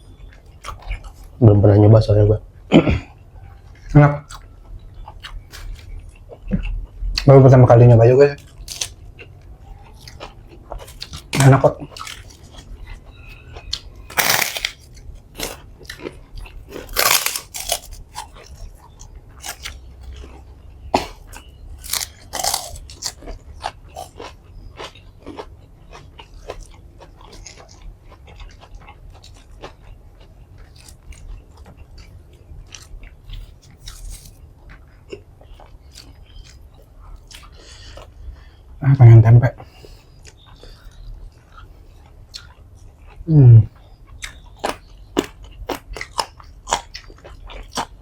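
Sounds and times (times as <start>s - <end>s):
person chewing crunchy food: 0.2s - 1.4s, 3.0s - 38.7s, 39.6s - 48.0s.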